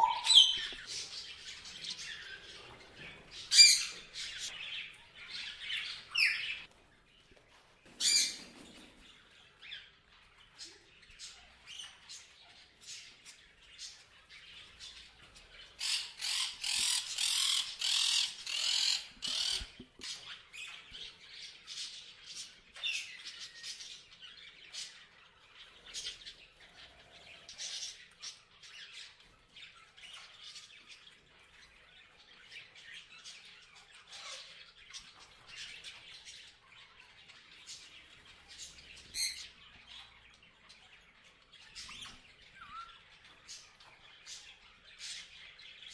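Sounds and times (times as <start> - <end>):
parrots chirping and squawking: 0.0 - 6.7, 9.6 - 21.4, 22.2 - 45.6.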